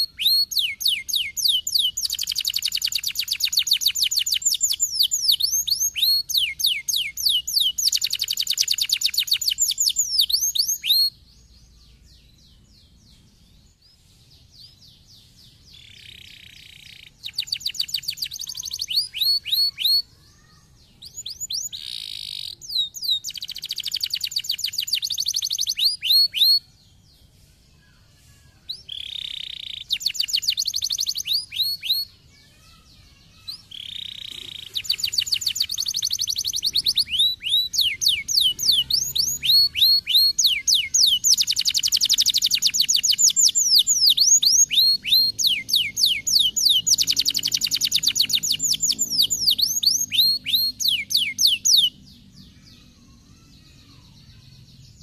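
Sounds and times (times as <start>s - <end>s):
canary singing trills: 0.0s - 27.0s, 28.7s - 55.0s.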